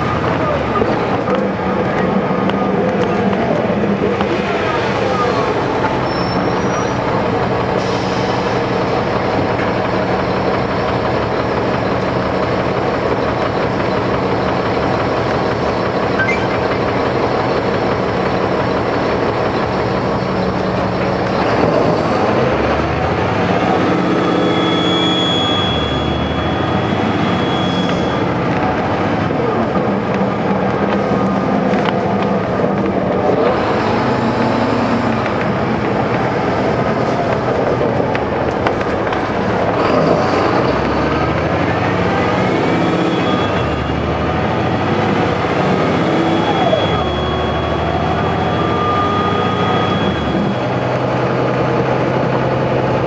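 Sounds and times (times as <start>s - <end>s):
bus diesel engine idling: 0.0s - 53.0s.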